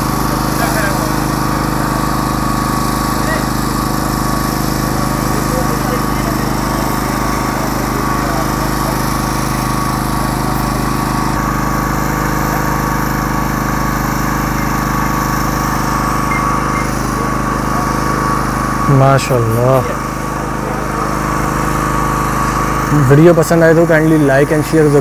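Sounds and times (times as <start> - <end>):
generator engine humming: 0.0 - 25.0.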